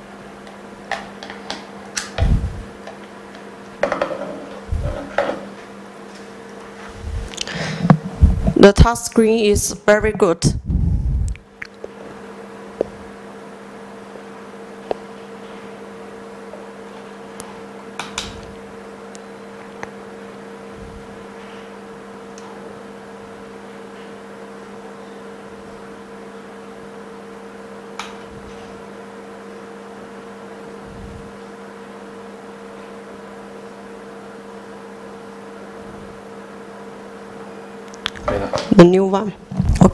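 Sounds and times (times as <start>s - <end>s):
electrical hum and hiss: 0.0s - 39.9s.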